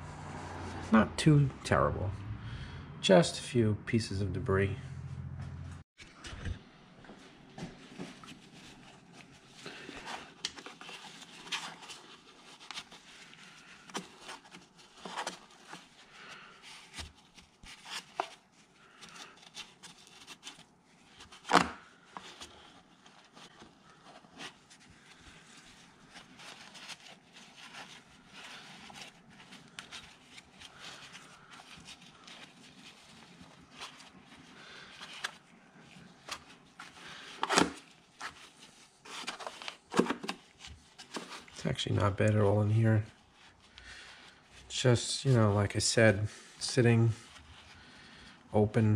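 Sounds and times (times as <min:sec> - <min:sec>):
paper towel rubbing and crinkling: 0:07.6 - 0:48.9.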